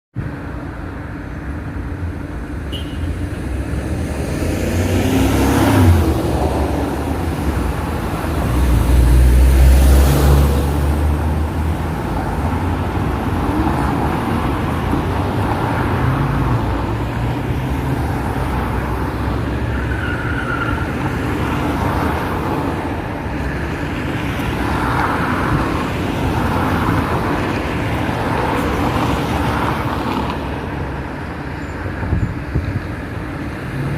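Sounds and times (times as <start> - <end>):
car engines and tyres rumbling: 0.1 - 33.9
vehicles pulling away: 0.4 - 33.9.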